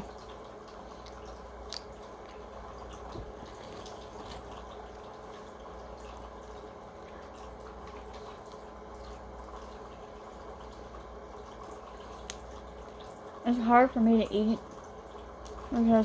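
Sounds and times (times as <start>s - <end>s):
chewing with wet clicks: 0.0s - 13.4s, 14.0s - 15.8s
low background hum: 0.0s - 16.0s.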